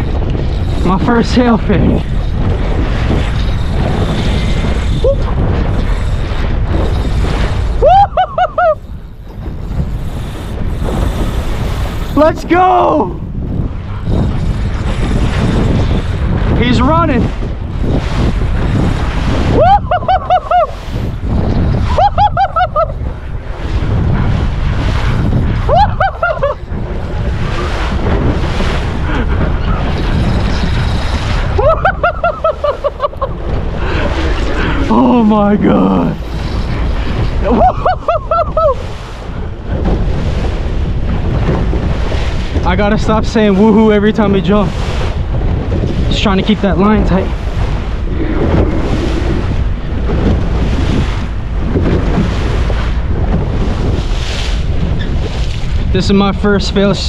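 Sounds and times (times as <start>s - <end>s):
water and hull hum: 0.0s - 57.0s
wind buffeting microphone: 0.0s - 57.0s.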